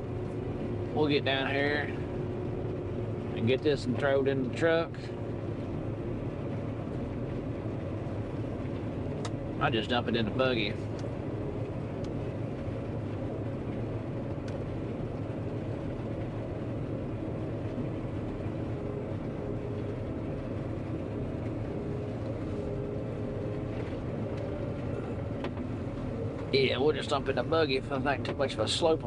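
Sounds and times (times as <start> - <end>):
combine harvester droning: 0.0 - 29.0.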